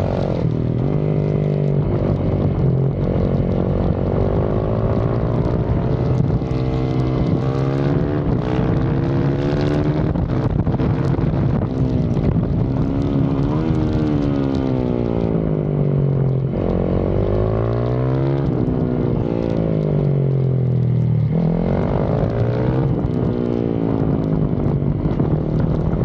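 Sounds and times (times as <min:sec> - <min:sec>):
motorcycle engine revving: 0:00.0 - 0:26.0
wind on microphone: 0:00.0 - 0:26.0.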